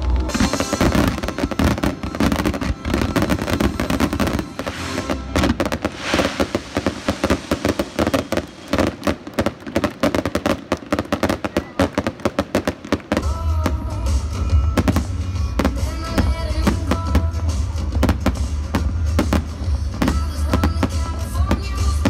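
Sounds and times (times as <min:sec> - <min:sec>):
fireworks bangs and crackling pops: 0:00.0 - 0:22.0.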